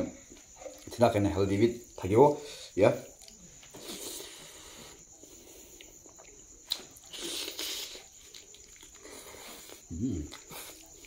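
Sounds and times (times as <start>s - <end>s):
soft chewing and mouth sounds: 0.1s - 11.0s.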